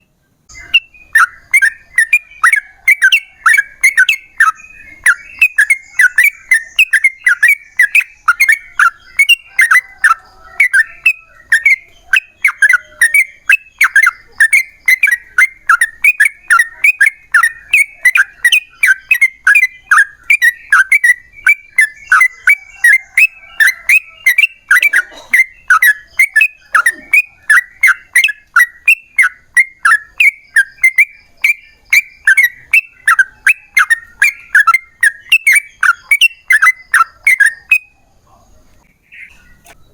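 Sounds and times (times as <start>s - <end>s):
bulbul chattering calls: 0.5s - 39.9s.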